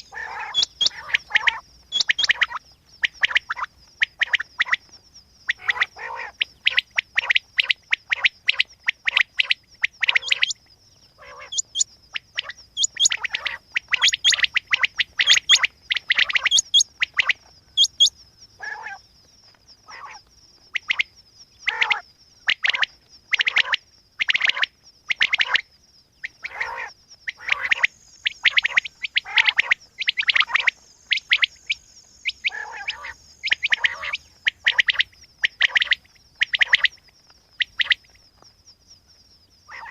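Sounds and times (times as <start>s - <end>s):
quail chirping: 0.0s - 39.9s.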